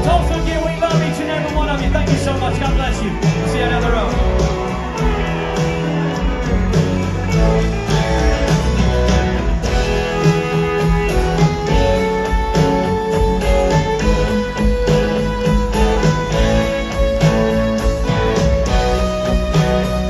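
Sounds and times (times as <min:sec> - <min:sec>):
country band playing: 0:00.0 - 0:20.0
drum kit steady beat: 0:00.0 - 0:20.0.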